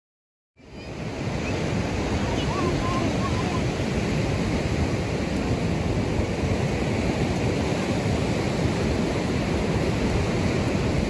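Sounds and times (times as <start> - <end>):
ocean surf washing in: 0.6 - 11.0
wind blowing: 0.6 - 11.0.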